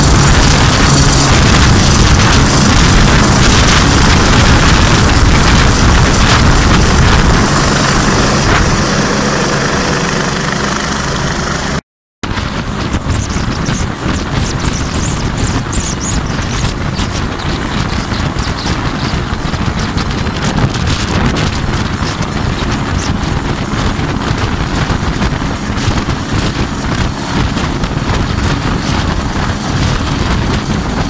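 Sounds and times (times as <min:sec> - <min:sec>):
helicopter rotor and engine: 0:00.0 - 0:31.0
high steady whine: 0:00.0 - 0:31.0.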